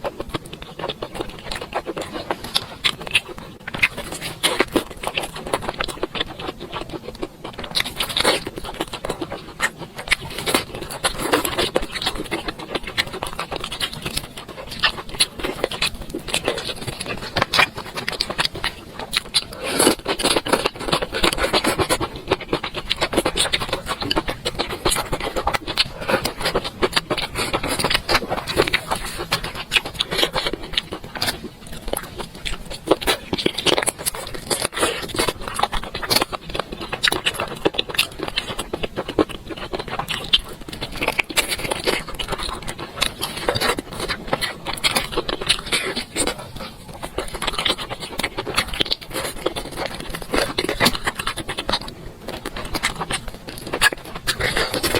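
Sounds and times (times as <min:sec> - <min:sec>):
person chewing: 0:00.0 - 0:54.9.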